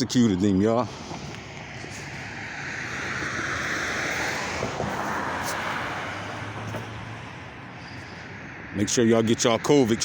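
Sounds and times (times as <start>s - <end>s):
car tyre and road noise: 0.0s - 10.0s.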